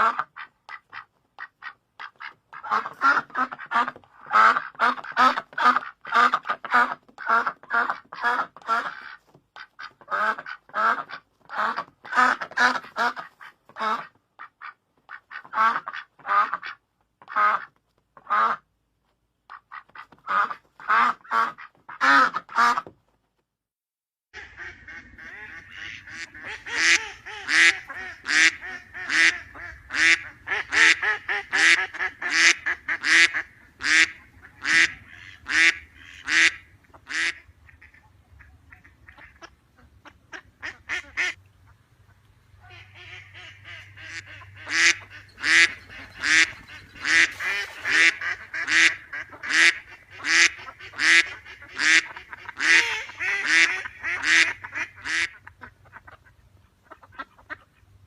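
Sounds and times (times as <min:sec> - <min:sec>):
ducks quacking: 0:00.0 - 0:18.7, 0:19.5 - 0:22.9, 0:24.4 - 0:58.0.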